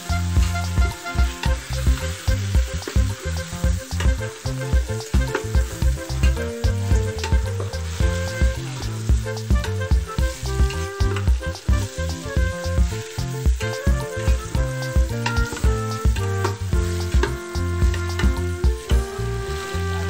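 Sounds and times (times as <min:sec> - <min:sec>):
background music with a steady beat: 0:00.0 - 0:20.0
chicken frying in oil: 0:00.0 - 0:20.0.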